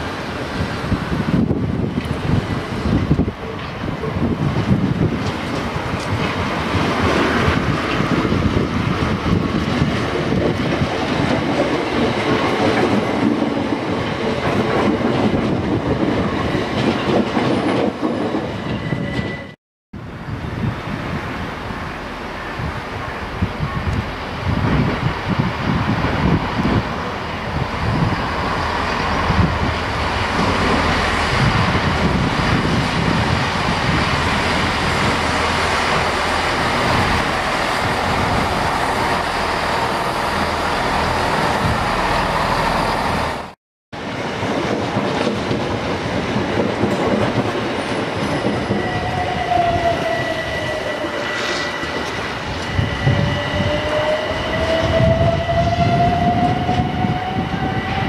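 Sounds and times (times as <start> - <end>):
diesel train running past: 0.0 - 58.0.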